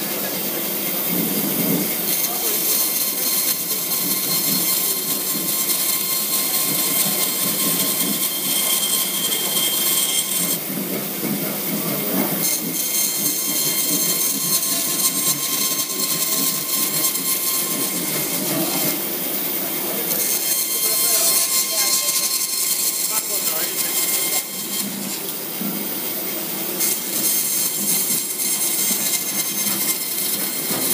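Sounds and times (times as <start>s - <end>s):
bandsaw cutting wood: 1.2s - 30.9s.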